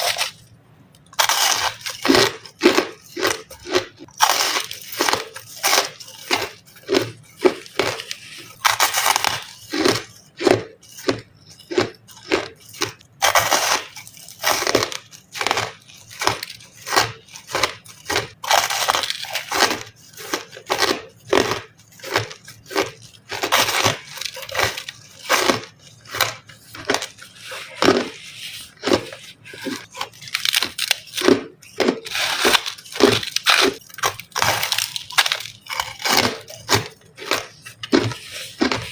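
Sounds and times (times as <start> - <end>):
crushed ice crunching: 0.0 - 0.4, 1.2 - 38.9.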